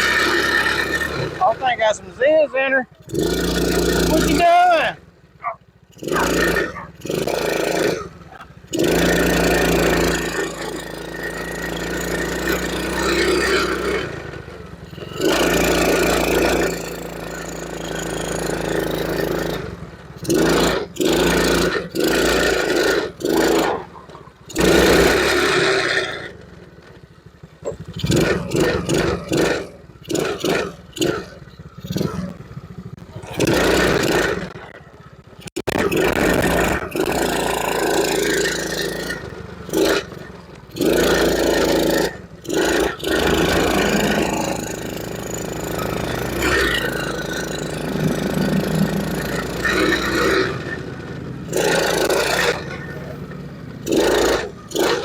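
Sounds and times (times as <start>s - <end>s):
small engine revving: 0.0s - 55.0s.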